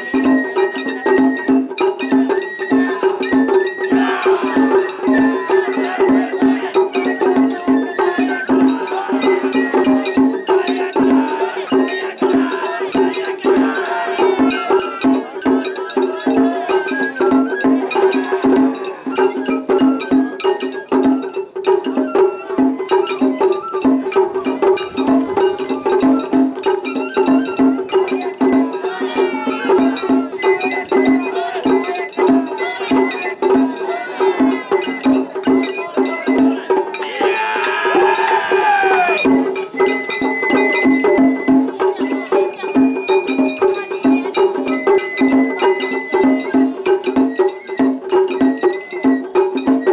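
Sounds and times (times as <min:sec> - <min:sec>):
bamboo flute: 0:00.0 - 0:49.9
drums beating: 0:00.0 - 0:49.9.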